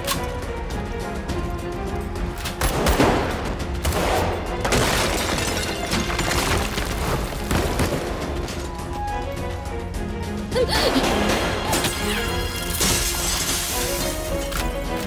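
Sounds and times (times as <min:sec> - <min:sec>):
tense action music: 0:00.0 - 0:15.0.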